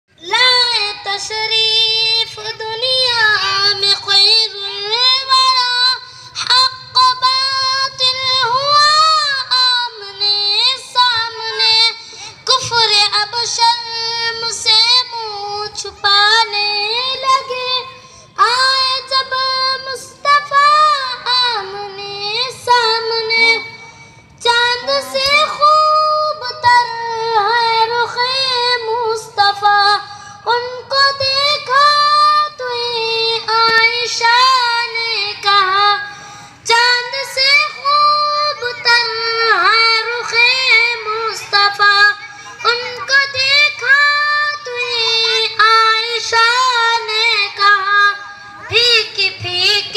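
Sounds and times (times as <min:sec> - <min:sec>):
boy singing into microphone: 0:00.1 - 0:49.9.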